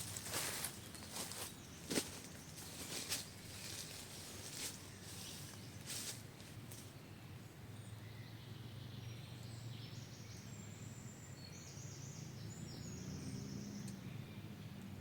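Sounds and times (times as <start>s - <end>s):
bird singing high song: 0.0s - 15.0s.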